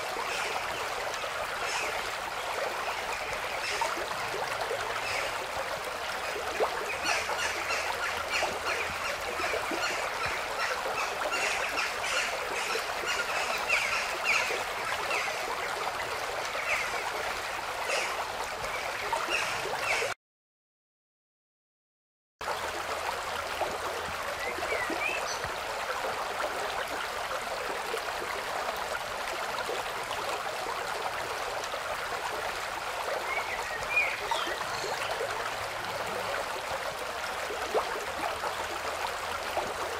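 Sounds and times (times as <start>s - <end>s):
flowing water rushing: 0.0s - 20.2s, 22.4s - 39.9s.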